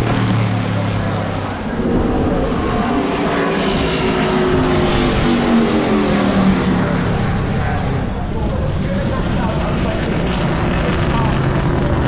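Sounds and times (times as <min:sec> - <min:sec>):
race car engine passing by: 0:00.0 - 0:12.0.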